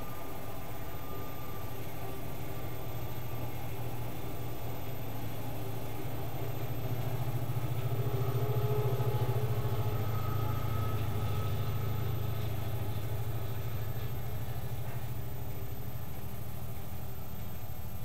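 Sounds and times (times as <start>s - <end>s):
faint high motor whine: 0.0s - 18.0s.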